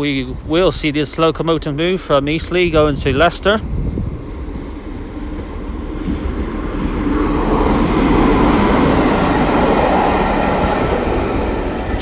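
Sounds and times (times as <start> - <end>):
diesel locomotive engine: 0.0 - 12.0
wheel-on-rail rumble: 0.0 - 12.0.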